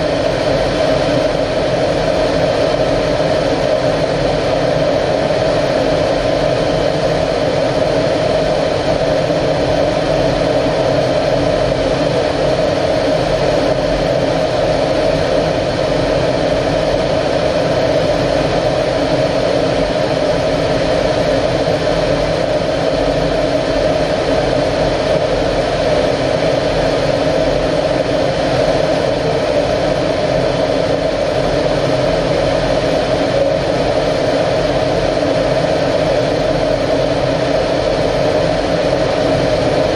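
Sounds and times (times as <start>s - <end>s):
jet engine running: 0.0s - 39.9s.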